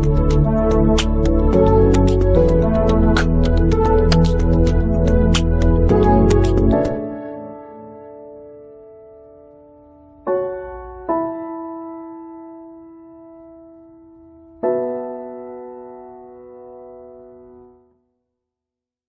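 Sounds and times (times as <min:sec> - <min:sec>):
slow piano chords: 0:00.0 - 0:17.9.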